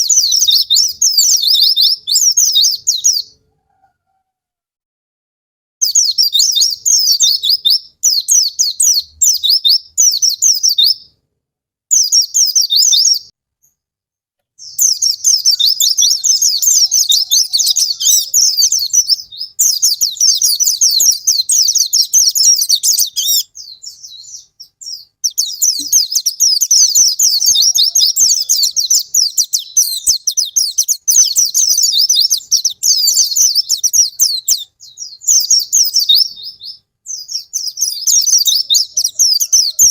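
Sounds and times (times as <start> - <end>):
bird twittering high and fast: 0.0 - 3.4, 5.8 - 11.1, 11.9 - 13.8, 14.6 - 39.9.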